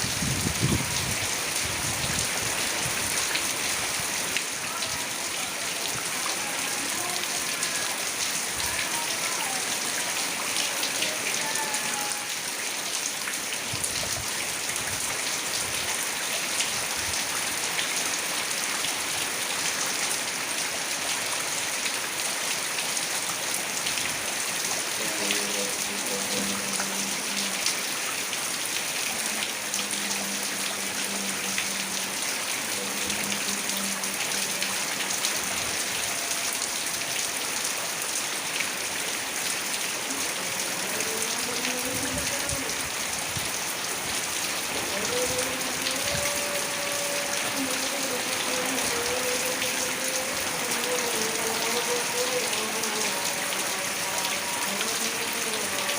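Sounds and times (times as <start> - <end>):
heavy rain drumming: 0.0 - 55.9.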